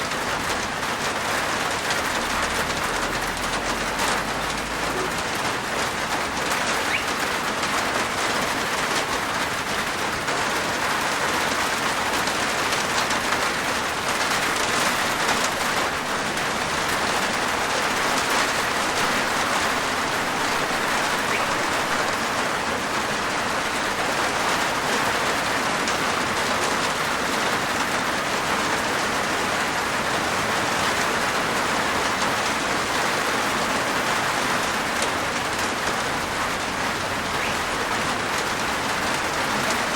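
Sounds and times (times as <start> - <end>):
rain on a rooftop: 0.0 - 39.9.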